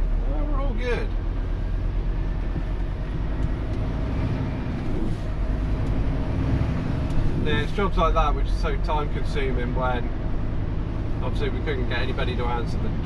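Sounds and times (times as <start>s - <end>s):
road noise: 0.0s - 13.0s
truck diesel engine rumble: 0.0s - 13.0s.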